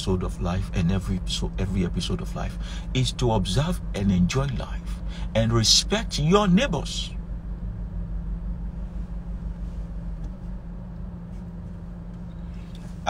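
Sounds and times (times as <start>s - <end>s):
car idling: 0.0s - 13.0s.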